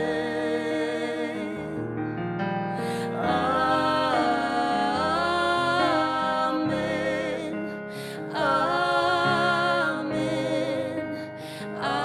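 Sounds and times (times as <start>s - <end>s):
voices singing with vibrato: 0.0s - 2.0s, 2.8s - 12.0s.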